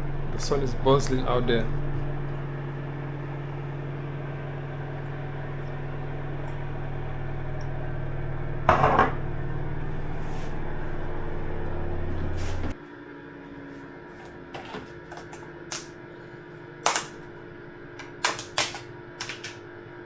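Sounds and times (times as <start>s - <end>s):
low electric hum: 0.0s - 20.0s.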